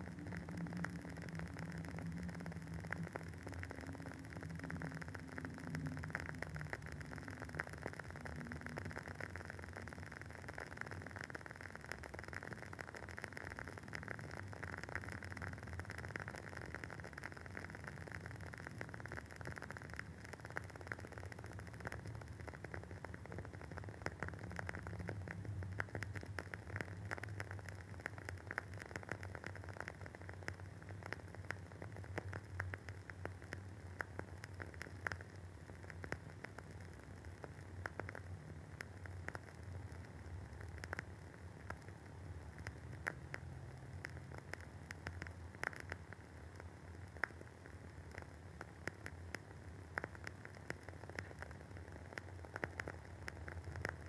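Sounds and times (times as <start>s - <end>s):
candle wick crackling and popping: 0.0s - 54.0s
faint steady low hum: 0.0s - 54.0s.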